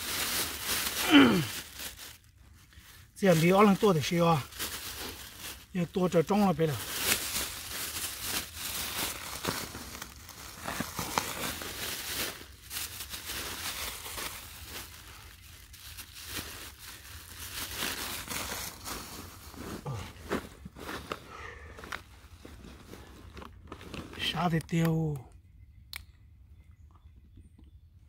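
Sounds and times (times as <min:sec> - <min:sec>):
plastic bag crinkling: 0:00.0 - 0:24.5.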